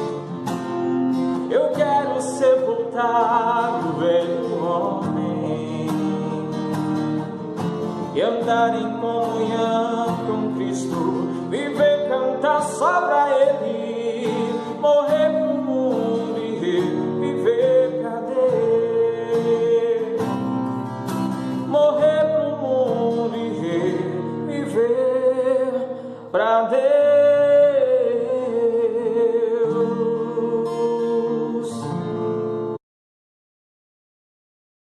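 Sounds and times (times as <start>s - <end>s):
acoustic guitar: 0.0s - 32.8s
man singing: 1.3s - 32.5s.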